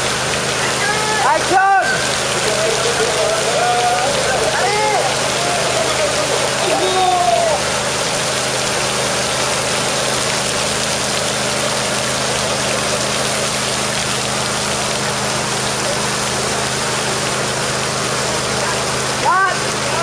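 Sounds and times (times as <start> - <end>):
engine idling: 0.0 - 20.0
water pouring hiss: 0.0 - 20.0.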